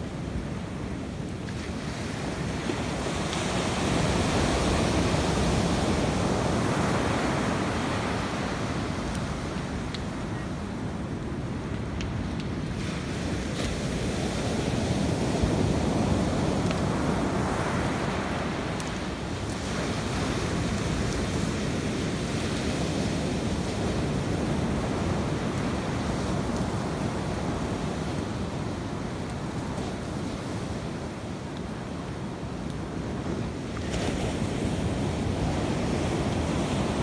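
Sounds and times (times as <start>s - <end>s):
ocean surf washing on beach: 0.0s - 37.0s.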